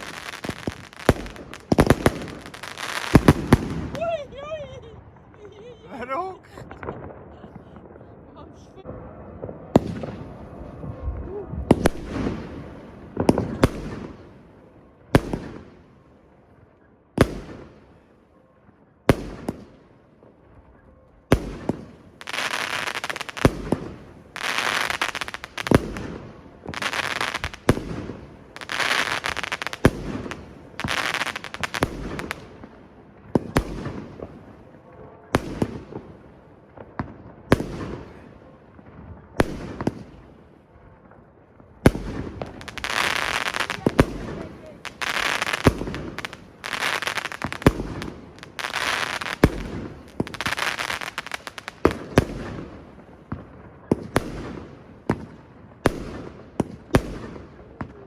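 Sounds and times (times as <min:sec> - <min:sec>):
fireworks bursting: 0:00.0 - 0:16.0, 0:21.2 - 0:58.0.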